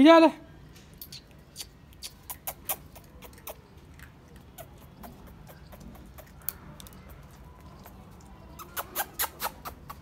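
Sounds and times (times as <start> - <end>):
puppy claws clicking on concrete: 0.7 - 10.0.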